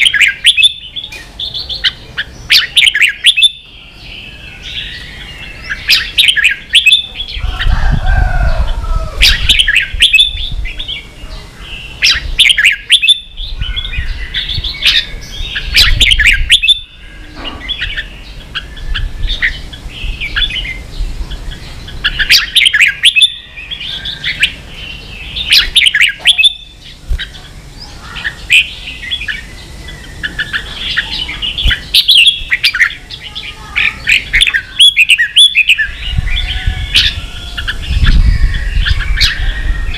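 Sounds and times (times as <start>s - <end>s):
bulbul singing chattering phrases: 0.0s - 7.8s, 8.5s - 39.9s.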